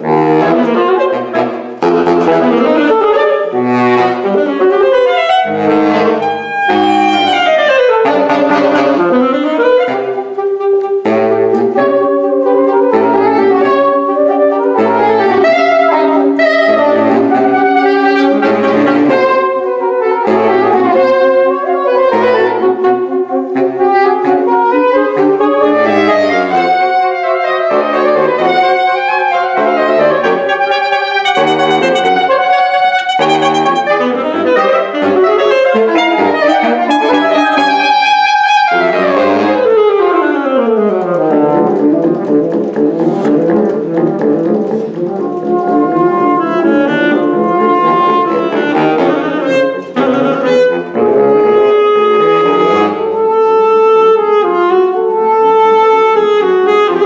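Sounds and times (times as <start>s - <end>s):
saxophone quartet playing: 0.0s - 57.0s.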